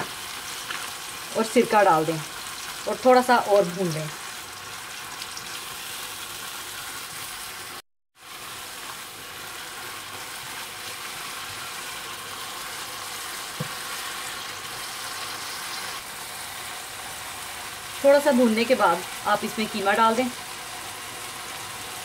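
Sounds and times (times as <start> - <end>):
masala sizzling in oil: 0.0 - 22.0.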